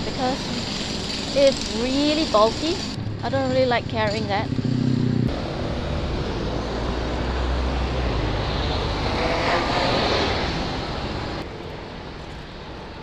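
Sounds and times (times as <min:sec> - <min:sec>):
passing engine: 0:00.0 - 0:13.0
road traffic: 0:00.0 - 0:13.0.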